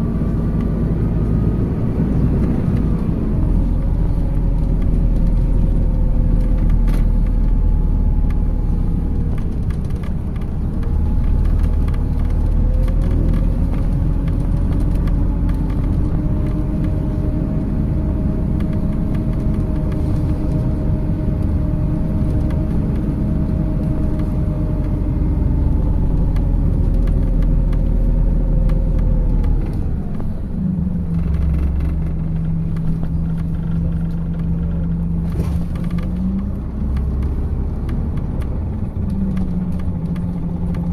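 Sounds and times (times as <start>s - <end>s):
bus engine and road rumble: 0.0s - 40.9s
drivetrain whine: 0.0s - 40.9s.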